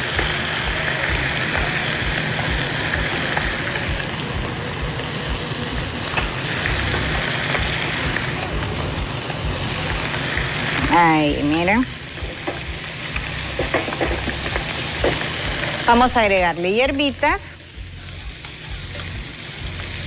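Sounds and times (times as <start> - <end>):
fish sizzling in a skillet: 0.0 - 20.0.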